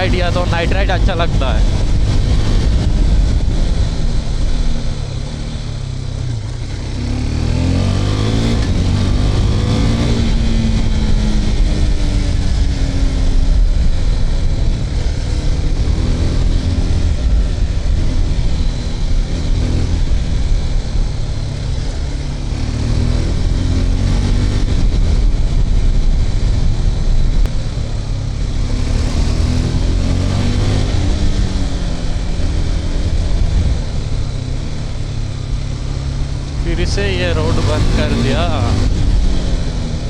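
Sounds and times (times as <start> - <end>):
motorcycle engine revving: 0.0 - 40.0
wind and road noise: 0.0 - 40.0.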